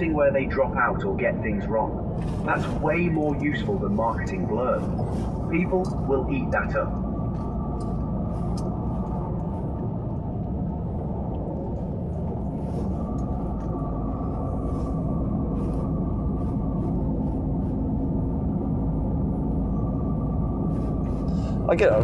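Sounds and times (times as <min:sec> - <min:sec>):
lorry engine rumble: 0:00.0 - 0:22.0
road noise inside cab: 0:00.0 - 0:22.0.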